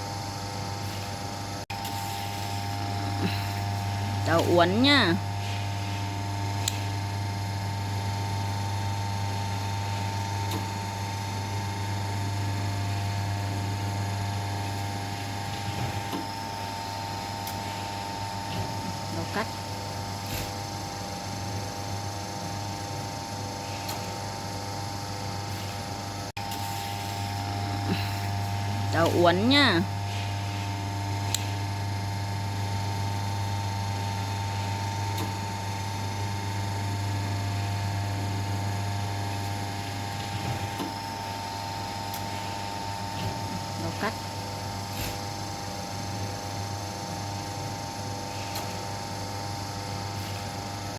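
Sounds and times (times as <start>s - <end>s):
electric motor humming: 0.6s - 50.9s.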